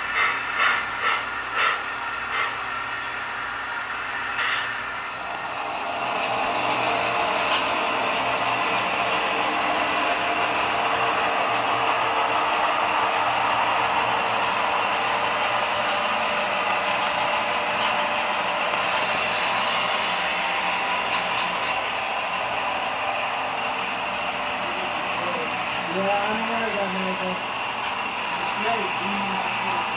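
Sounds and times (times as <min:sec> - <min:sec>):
model train diesel engine sound: 0:00.0 - 0:29.9.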